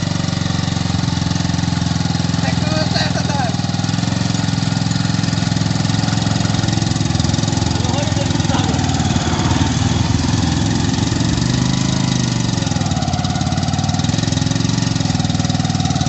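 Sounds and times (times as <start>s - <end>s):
motorcycle engine under load: 0.0s - 16.0s.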